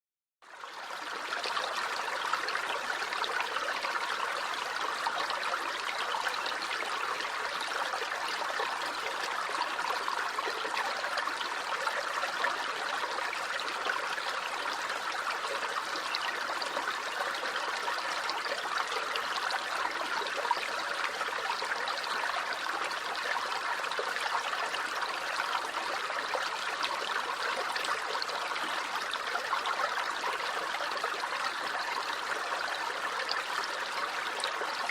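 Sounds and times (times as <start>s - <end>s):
stream babbling over stones: 0.6s - 34.9s.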